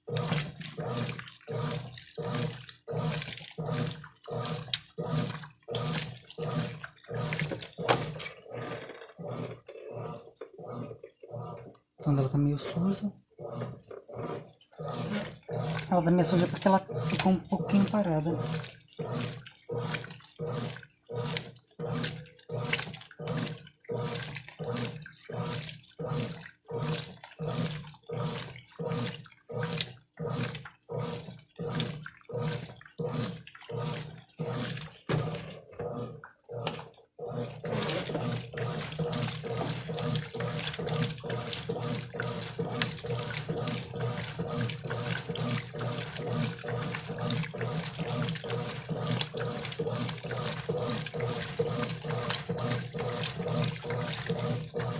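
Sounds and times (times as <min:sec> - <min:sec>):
washing machine sloshing water: 0:00.0 - 0:54.9.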